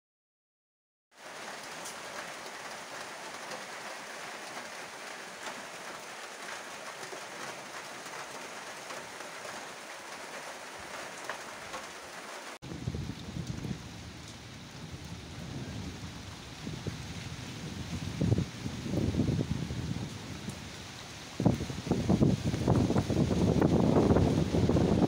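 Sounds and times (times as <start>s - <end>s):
steady rain falling: 1.1s - 25.0s.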